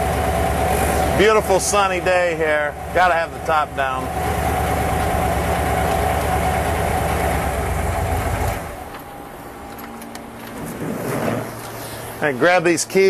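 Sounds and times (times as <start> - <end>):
car engine idling: 0.0 - 10.8
convertible top motor whirring: 0.0 - 12.4.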